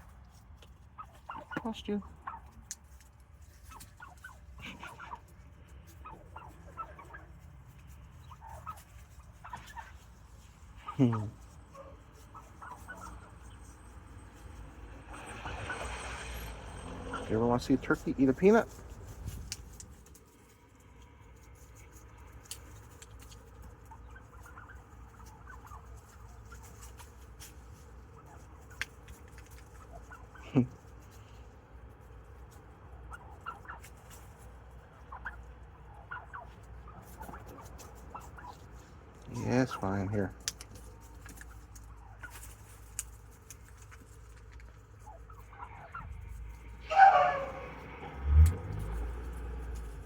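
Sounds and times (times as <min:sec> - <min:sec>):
low background rumble: 0:00.0 - 0:50.0
turkeys clucking and chirping: 0:00.2 - 0:50.0.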